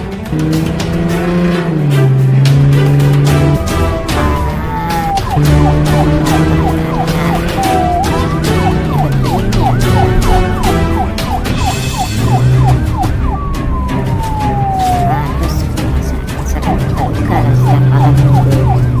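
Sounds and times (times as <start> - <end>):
background music with steady beat: 0.0 - 19.0
siren yelping: 0.3 - 19.0.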